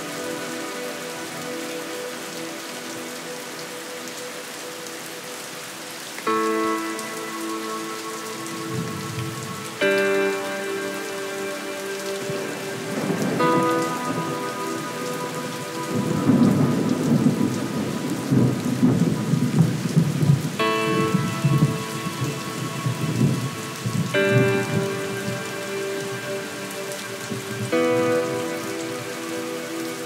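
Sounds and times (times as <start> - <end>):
rain: 0.0 - 30.0.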